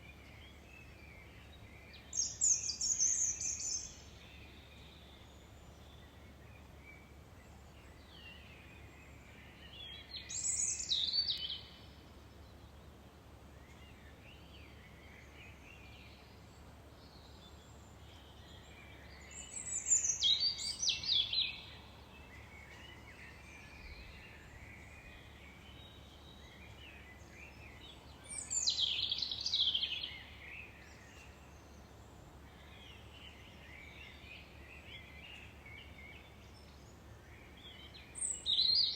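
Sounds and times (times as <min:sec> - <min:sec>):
faint bird chirping: 0:00.0 - 0:38.9.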